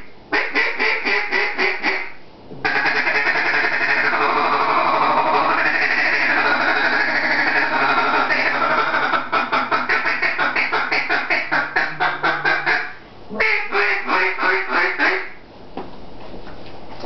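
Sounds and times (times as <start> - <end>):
duck call clucking quacks: 0.0 - 15.4.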